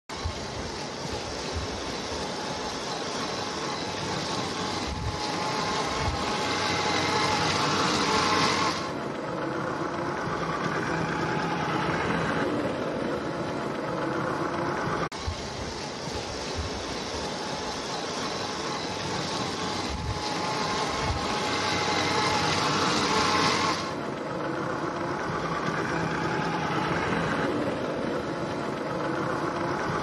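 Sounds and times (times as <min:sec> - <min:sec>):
vehicle engine running: 0:00.1 - 0:30.0.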